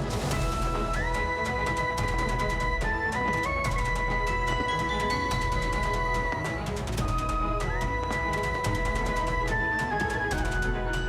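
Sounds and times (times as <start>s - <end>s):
instrumental dance music: 0.0s - 11.0s.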